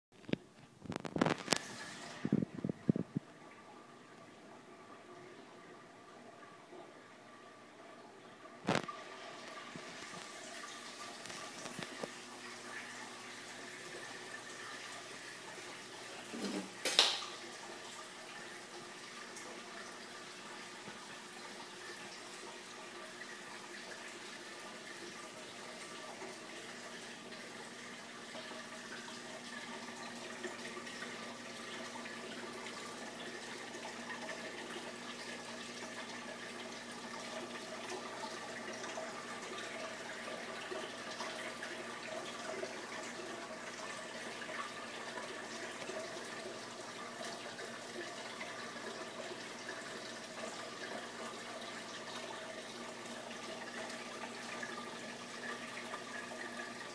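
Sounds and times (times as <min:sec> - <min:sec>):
aquarium water running and splashing: 0:00.2 - 0:56.9
faint pump hum: 0:00.2 - 0:56.9.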